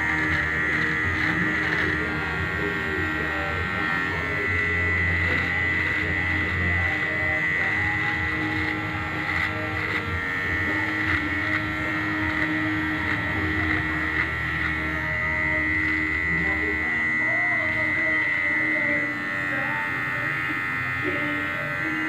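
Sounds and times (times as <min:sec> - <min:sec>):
electric hair trimmer buzzing: 0:00.0 - 0:22.0.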